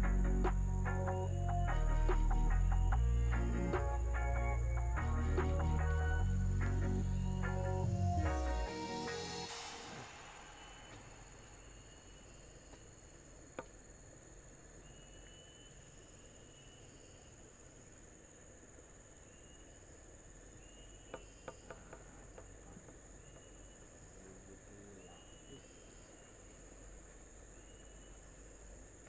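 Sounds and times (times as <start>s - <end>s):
insect chorus drone: 0.0s - 29.0s
short insect chirps: 0.0s - 29.0s.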